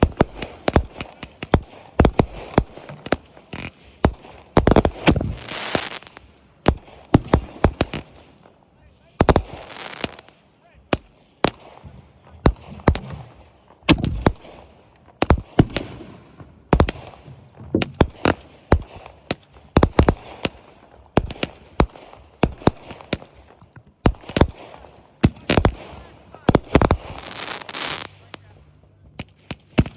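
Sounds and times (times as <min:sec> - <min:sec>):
fireworks bangs with crackle: 0:00.0 - 0:29.9.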